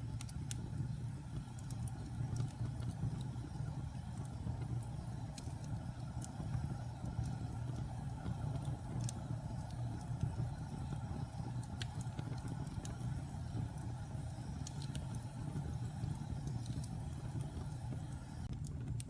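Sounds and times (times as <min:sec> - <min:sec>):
fire crackles and pops: 0:00.0 - 0:19.0
fire rumbling: 0:00.0 - 0:19.0.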